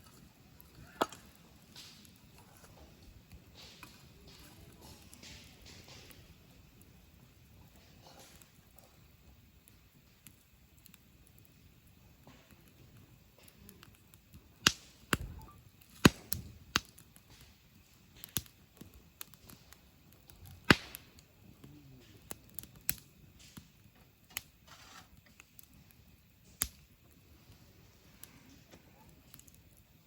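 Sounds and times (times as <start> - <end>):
campfire crackling: 0.0 - 30.0
faint steady hiss: 0.0 - 30.0.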